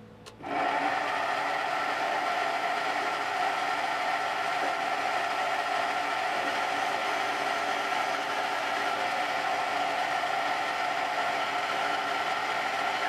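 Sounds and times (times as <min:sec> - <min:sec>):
metal lathe running: 0:00.4 - 0:13.0.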